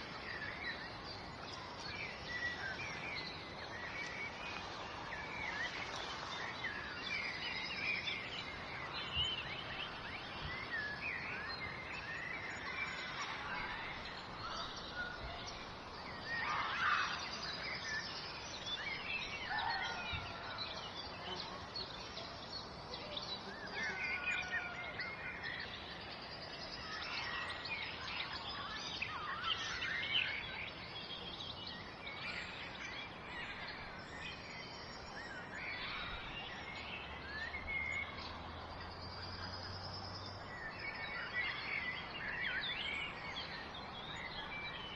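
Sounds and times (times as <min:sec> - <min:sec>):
songbirds chirping and singing: 0:00.0 - 0:44.9
steady background hiss: 0:00.0 - 0:44.9.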